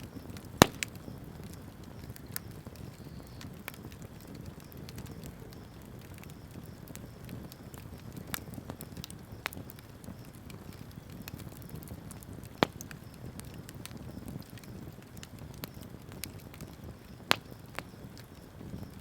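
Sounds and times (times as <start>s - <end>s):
bonfire rumbling: 0.0s - 19.0s
fire crackles: 0.0s - 19.0s
loud fire pops: 0.0s - 19.0s.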